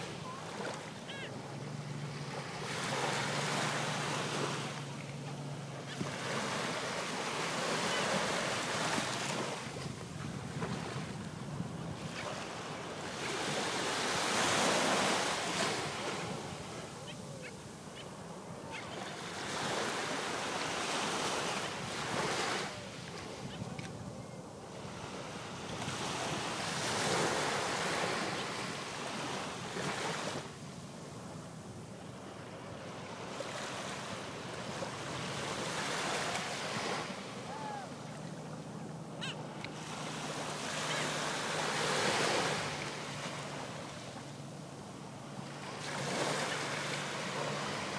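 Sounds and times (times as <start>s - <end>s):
small waves breaking on beach: 0.0s - 47.9s.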